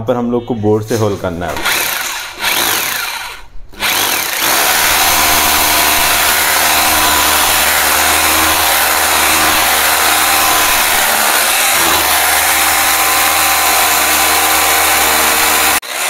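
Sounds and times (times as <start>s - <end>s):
hammer drill boring into wood: 1.6s - 16.0s.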